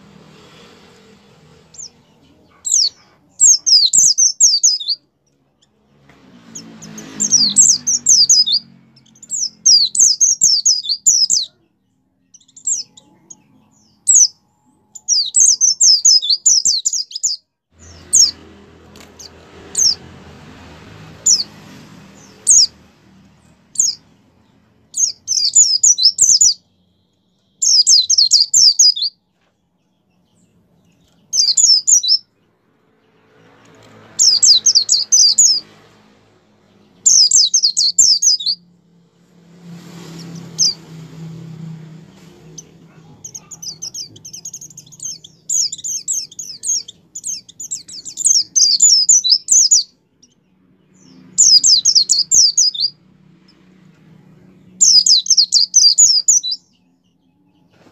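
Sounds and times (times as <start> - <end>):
bird twittering song: 1.6 - 20.0, 21.2 - 32.5, 33.1 - 35.8, 36.7 - 38.7, 40.1 - 41.4, 42.2 - 57.8.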